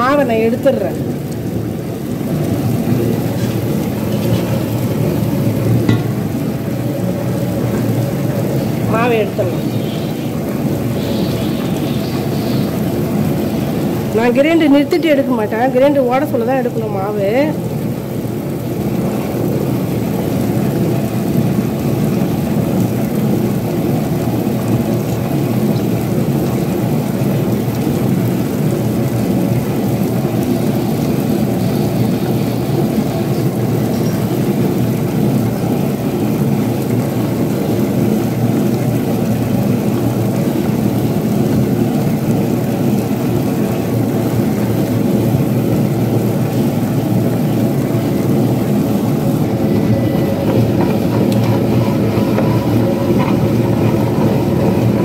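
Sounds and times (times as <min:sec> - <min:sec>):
wet grinder rumbling: 0:00.0 - 0:55.0.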